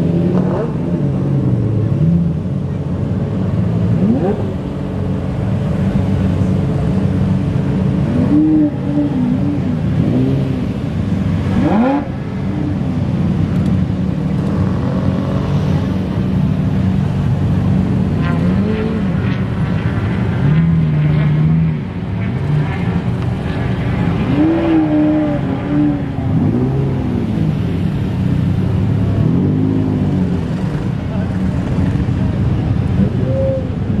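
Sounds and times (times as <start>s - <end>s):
car engines idling in traffic: 0.0s - 34.0s.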